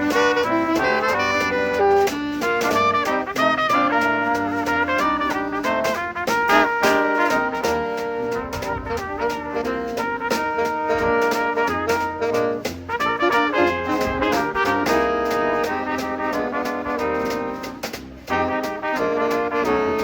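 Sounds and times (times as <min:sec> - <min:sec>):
brass band playing jazzy tune: 0:00.0 - 0:20.0
steady drum beat: 0:00.0 - 0:20.0.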